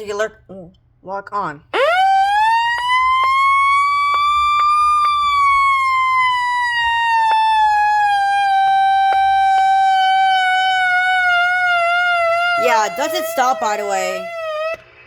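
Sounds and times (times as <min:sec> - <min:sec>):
electronic alert siren: 0:01.8 - 0:14.9.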